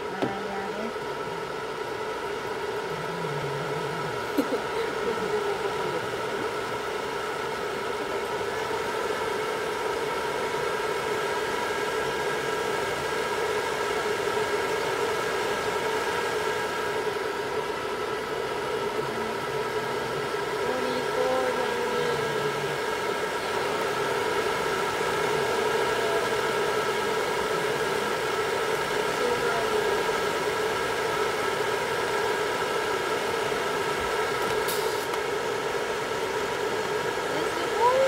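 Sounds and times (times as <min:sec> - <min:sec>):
hair dryer running: 0:00.0 - 0:38.0.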